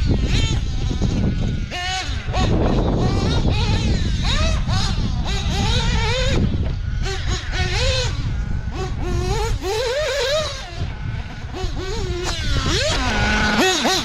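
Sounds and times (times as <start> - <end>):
nitro engine revving: 0.0 - 14.0.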